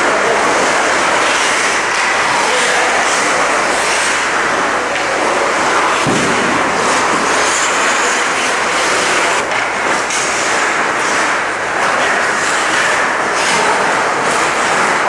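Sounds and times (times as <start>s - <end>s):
ice rink rushing noise: 0.0s - 15.0s
skate blades carving ice: 0.2s - 15.0s
hockey stick or puck clacks: 1.2s - 15.0s.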